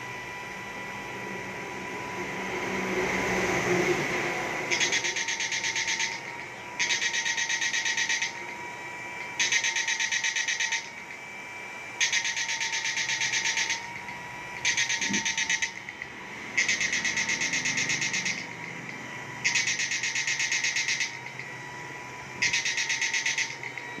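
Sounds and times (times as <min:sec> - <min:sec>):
faint steady whine: 0:00.0 - 0:24.0
inverter buzzing in pulses: 0:00.0 - 0:24.0.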